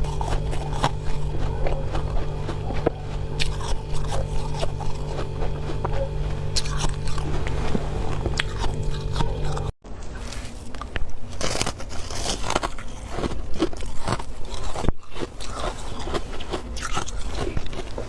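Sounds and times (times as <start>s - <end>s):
frost being chewed crunching: 0.0s - 18.0s.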